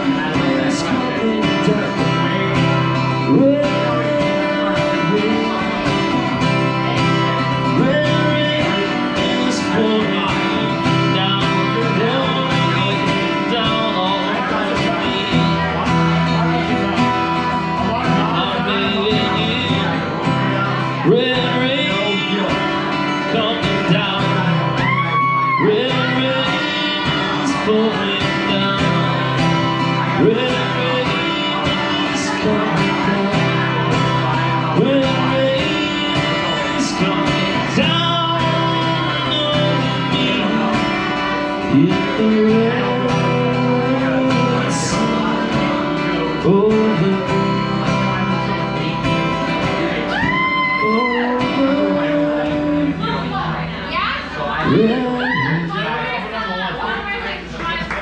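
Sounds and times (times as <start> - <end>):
man singing: 0.0 - 56.4
strummed acoustic guitar: 0.0 - 57.9.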